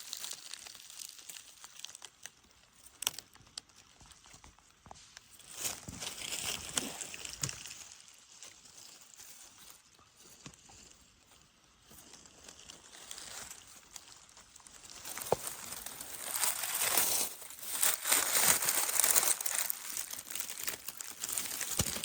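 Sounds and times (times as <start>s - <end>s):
dry leaves rustling and crackling: 0.0s - 2.3s, 5.4s - 10.9s, 11.9s - 22.0s.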